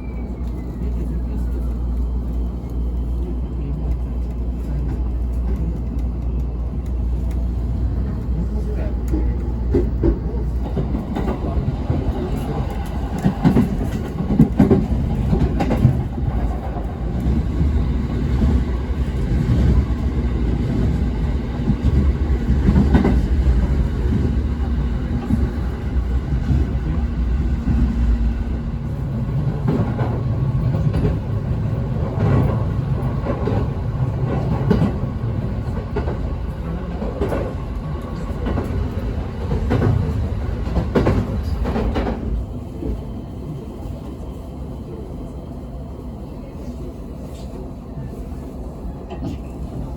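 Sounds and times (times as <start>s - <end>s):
train rumbling along track: 0.0s - 49.9s.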